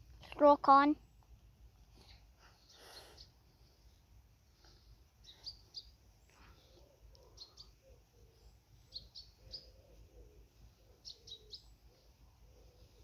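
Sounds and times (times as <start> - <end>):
faint bird chirping: 0.8 - 13.0.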